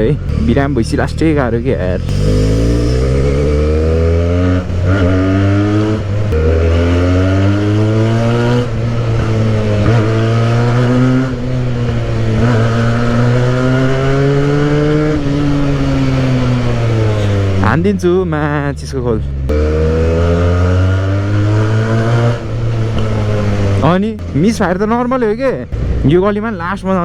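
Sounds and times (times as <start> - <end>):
motorcycle accelerating through gears: 0.0 - 17.8, 19.4 - 24.5.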